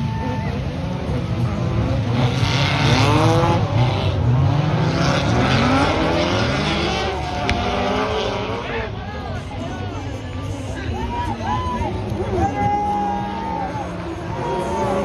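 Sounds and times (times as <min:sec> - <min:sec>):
racing buggy engines revving: 0:00.0 - 0:15.0.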